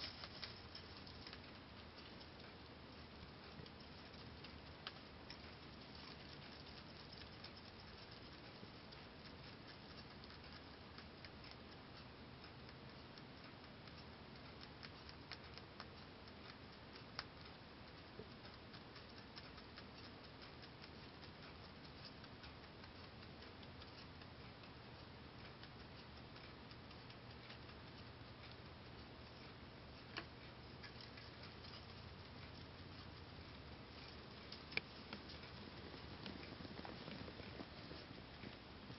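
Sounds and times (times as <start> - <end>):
rabbit chewing hay: 0.0 - 38.9.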